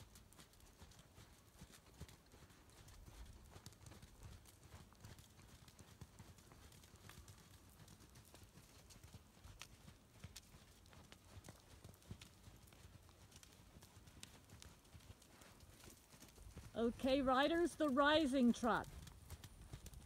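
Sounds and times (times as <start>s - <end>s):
horse hoofbeats on sand: 0.0s - 20.0s.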